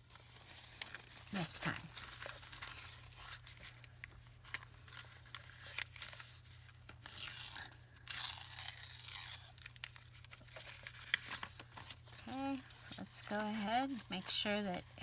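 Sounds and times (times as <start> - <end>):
paper crinkling: 0.0 - 15.0
paper rasping rustles: 0.1 - 15.0.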